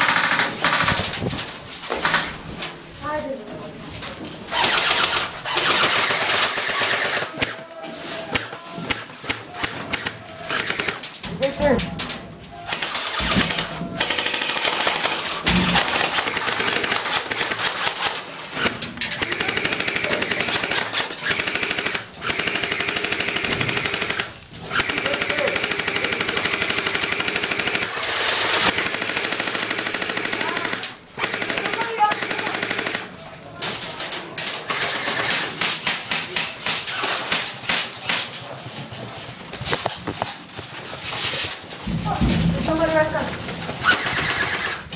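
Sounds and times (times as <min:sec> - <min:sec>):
airsoft guns firing full auto: 0:00.0 - 0:02.3, 0:04.5 - 0:07.6, 0:08.3 - 0:38.3, 0:43.7 - 0:44.9.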